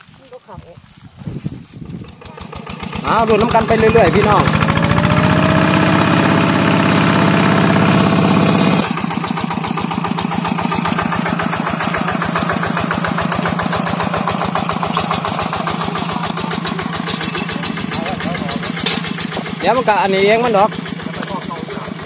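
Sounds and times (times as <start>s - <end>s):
walking tractor engine running: 0.0s - 22.0s.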